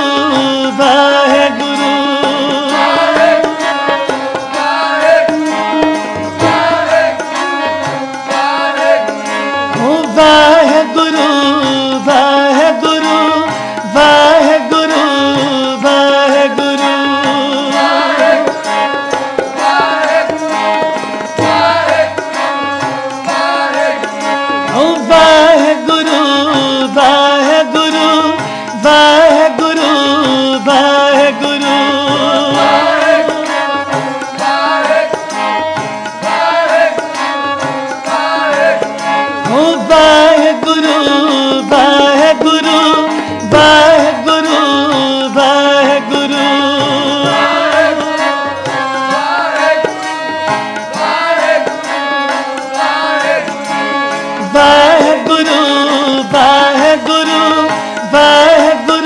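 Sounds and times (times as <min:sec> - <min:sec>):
harmonium melody: 0:00.0 - 0:59.0
tabla hand-drumming: 0:00.0 - 0:59.0.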